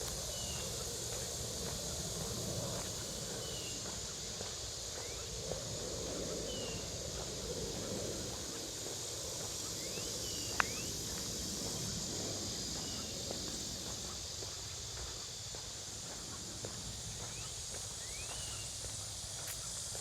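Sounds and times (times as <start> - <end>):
footsteps on a trail: 0.0 - 20.0
steady high hiss: 0.0 - 20.0.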